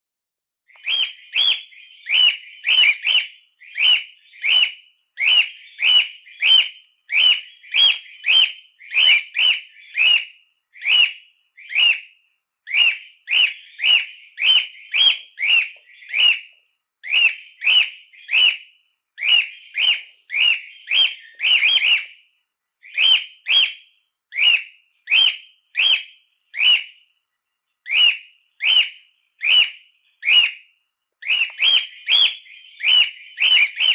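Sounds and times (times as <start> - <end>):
cockatiel shrill whistled calls: 0.7 - 12.1, 12.7 - 22.2, 22.8 - 27.0, 27.8 - 33.9.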